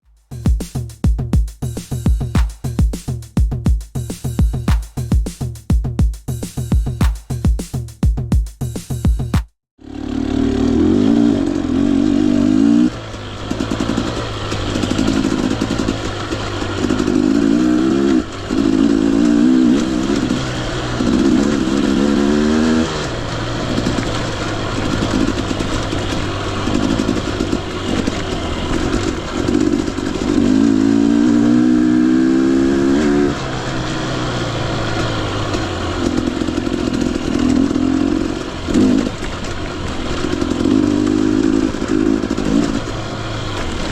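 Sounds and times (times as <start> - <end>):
dirt bike engine revving: 8.6 - 43.9.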